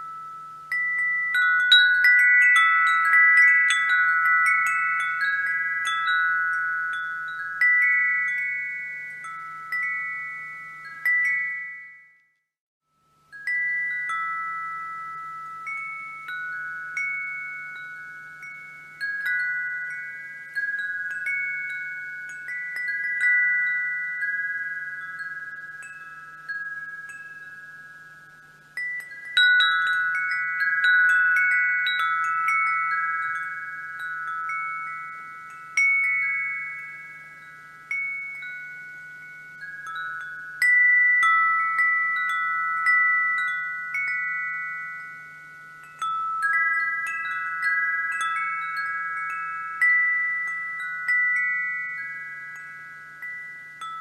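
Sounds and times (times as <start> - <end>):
wind chimes ringing: 0.0 - 54.0.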